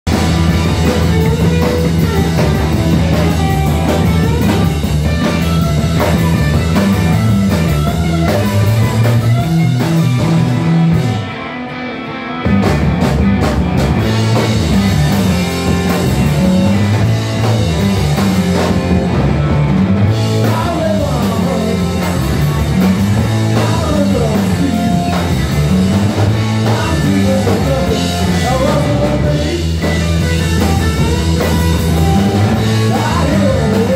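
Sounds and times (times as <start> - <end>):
drum kit: 0.0 - 33.9
electric bass: 0.0 - 33.9
electric guitar: 0.0 - 33.9.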